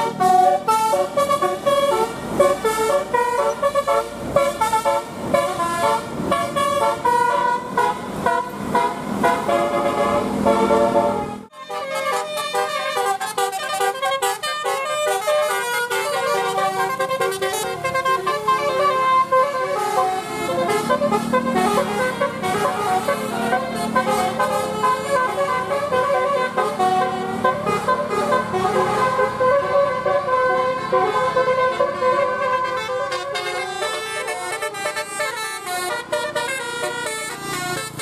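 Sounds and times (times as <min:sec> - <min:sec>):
bus engine: 0:00.0 - 0:38.0
multi-tone air horn tune: 0:00.0 - 0:38.0.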